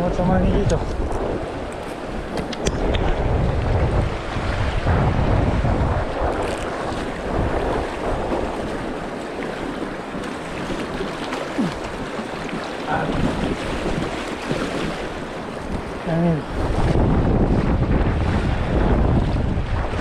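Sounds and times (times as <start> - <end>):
river water rushing and splashing: 0.0 - 20.0
wind noise on microphone: 0.0 - 20.0.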